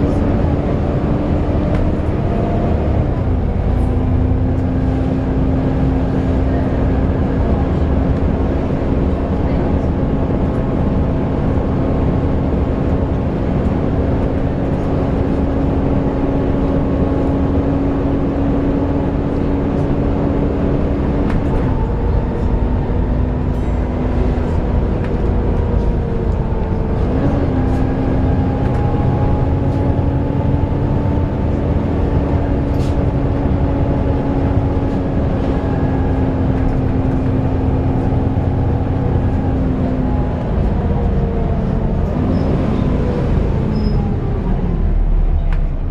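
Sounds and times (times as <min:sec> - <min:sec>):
bus cooling fan whine: 0:00.0 - 0:45.9
bus engine and road noise: 0:00.0 - 0:45.9.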